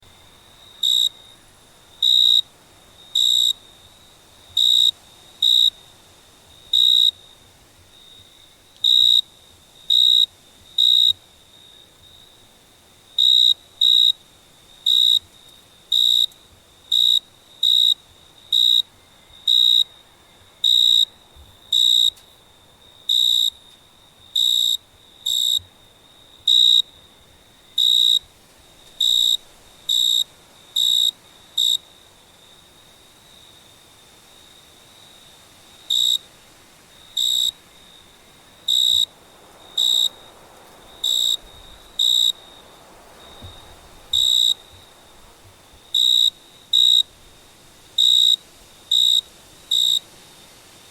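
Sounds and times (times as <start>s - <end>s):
cricket chirping: 0.0s - 50.9s.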